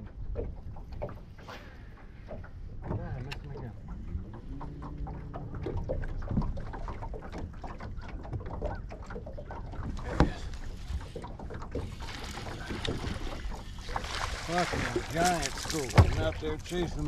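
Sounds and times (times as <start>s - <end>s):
low rumble of wind: 0.0s - 17.0s
water lapping against boat hull: 0.0s - 17.0s.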